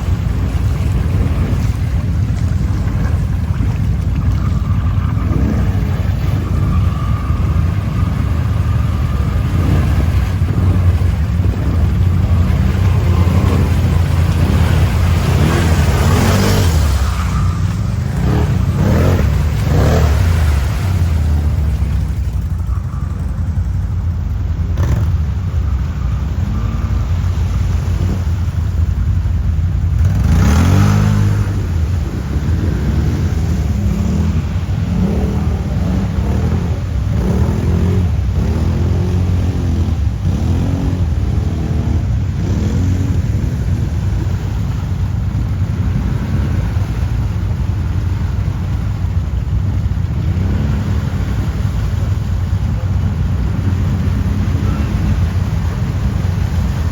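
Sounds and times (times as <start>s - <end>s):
quad engine revving: 0.0s - 23.4s, 24.7s - 25.4s, 29.9s - 44.8s, 50.0s - 56.9s.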